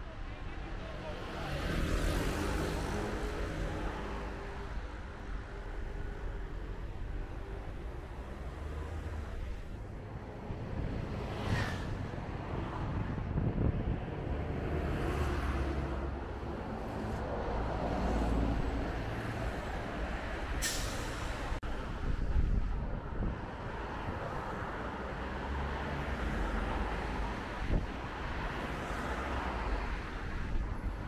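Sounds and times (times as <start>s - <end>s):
traffic rumble of engines and tyres: 0.0s - 31.0s.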